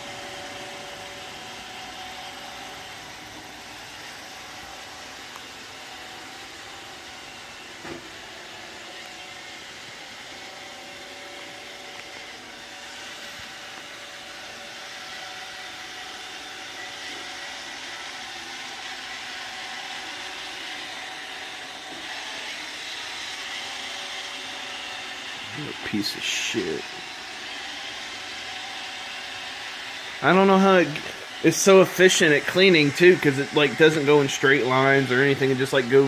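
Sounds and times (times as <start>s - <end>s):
robot vacuum whirring: 0.0s - 36.0s.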